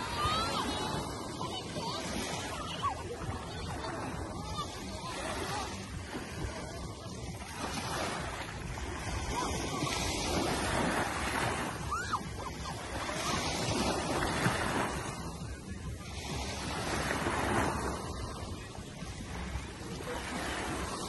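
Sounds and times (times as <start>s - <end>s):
small waves breaking on shore: 0.0s - 21.0s.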